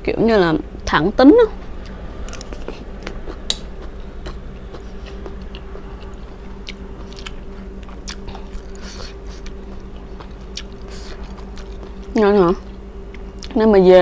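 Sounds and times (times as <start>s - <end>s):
steady low hum: 0.0s - 14.0s
person chewing food: 1.8s - 13.6s.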